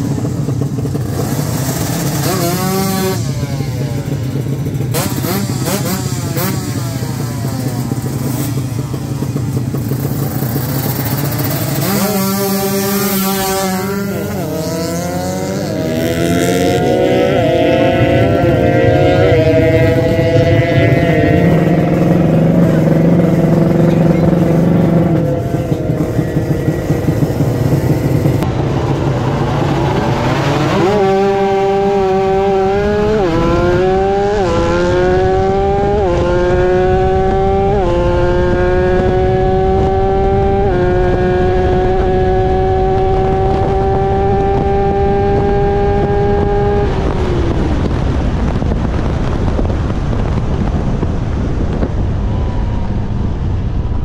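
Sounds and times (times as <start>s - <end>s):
engine running with rapid pulse: 0.0s - 54.0s
motorcycles revving and accelerating: 0.0s - 54.0s.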